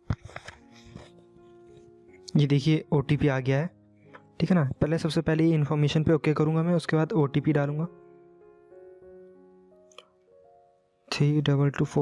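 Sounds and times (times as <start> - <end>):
soft keyboard notes: 0.0 - 12.0.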